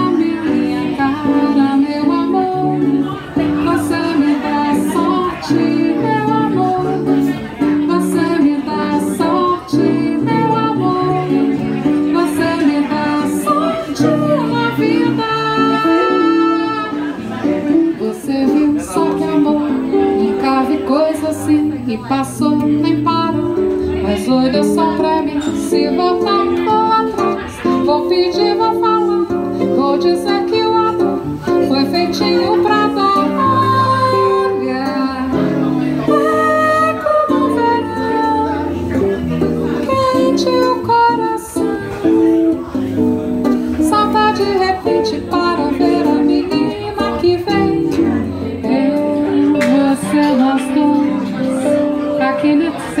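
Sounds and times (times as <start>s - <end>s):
woman singing: 0.0s - 42.9s, 43.6s - 53.0s
acoustic guitar: 0.0s - 53.0s
electric guitar: 0.0s - 53.0s.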